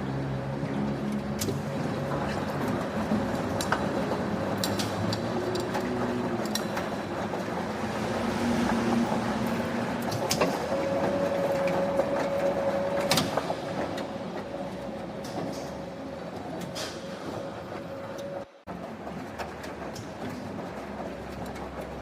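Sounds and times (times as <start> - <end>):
factory machinery running: 0.0 - 22.0.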